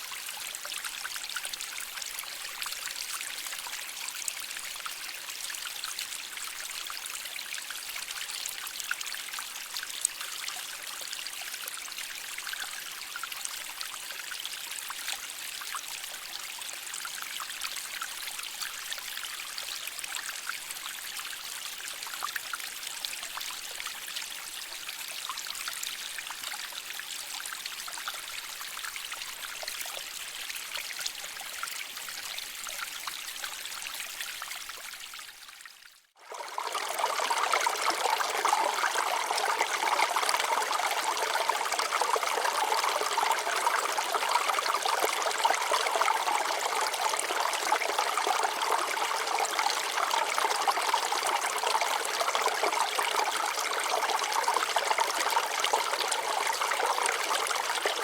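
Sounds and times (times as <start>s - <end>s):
stream trickling over rocks: 0.0s - 58.0s.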